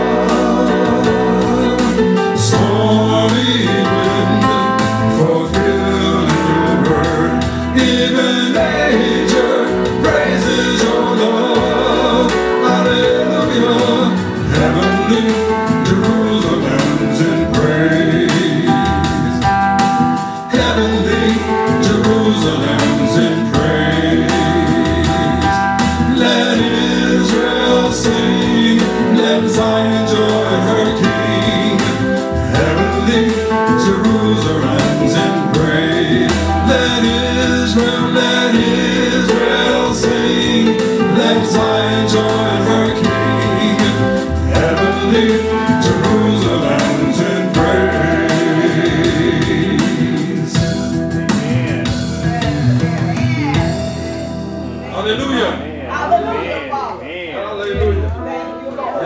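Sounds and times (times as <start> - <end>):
man singing: 0.0 - 53.1
gospel band backing: 0.0 - 59.0.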